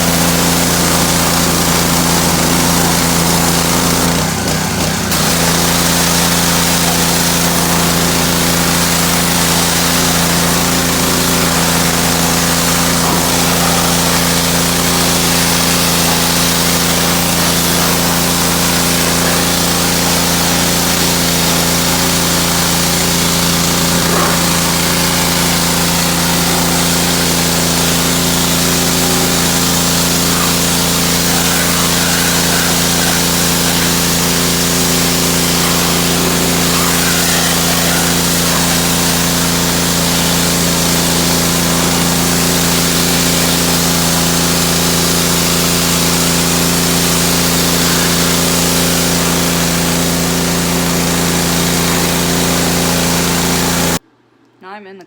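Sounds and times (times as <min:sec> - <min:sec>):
pressure washer running: 0:00.0 - 0:54.0.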